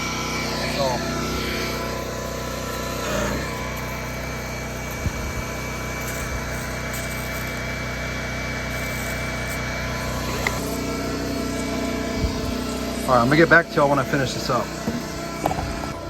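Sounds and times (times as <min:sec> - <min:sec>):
pressure washer engine running: 0:00.0 - 0:16.0.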